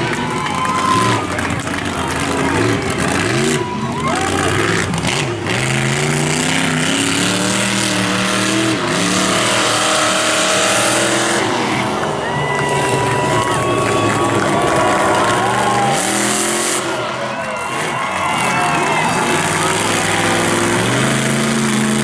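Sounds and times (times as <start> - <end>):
loud truck engine revving: 0.0 - 22.0.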